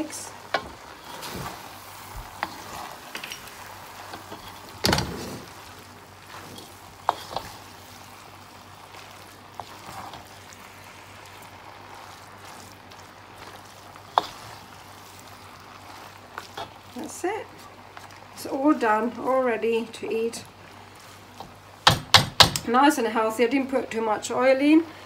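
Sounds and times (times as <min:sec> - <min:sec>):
noodles sizzling in a frying pan: 0:00.0 - 0:25.0.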